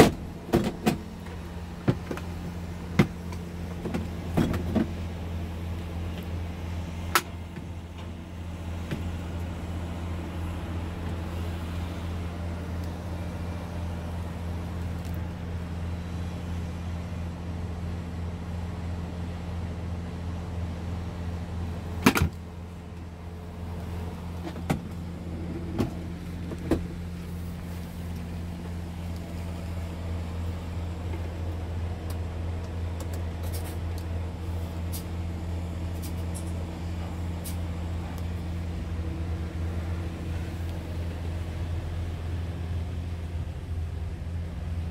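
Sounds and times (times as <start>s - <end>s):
truck diesel engine idling: 0.0s - 44.9s.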